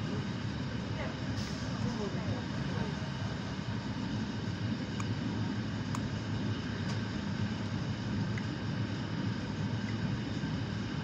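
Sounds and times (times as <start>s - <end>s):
train diesel engines running: 0.0s - 11.0s.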